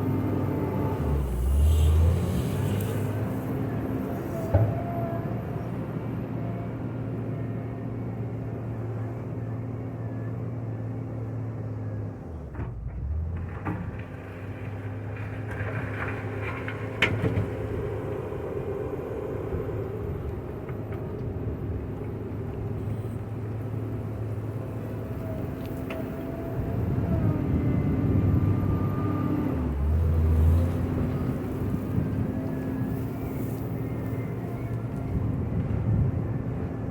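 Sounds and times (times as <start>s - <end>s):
wheel loader diesel engine: 0.0s - 36.9s.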